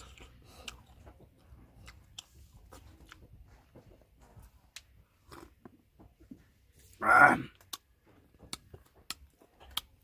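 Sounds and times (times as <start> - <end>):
quiet chewing of food: 0.0 - 10.0.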